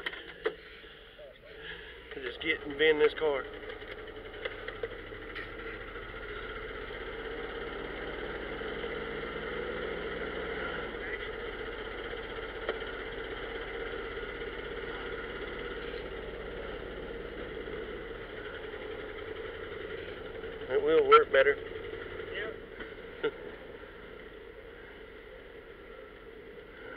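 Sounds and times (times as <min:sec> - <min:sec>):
road noise: 0:00.0 - 0:26.9
truck engine running: 0:00.0 - 0:26.9.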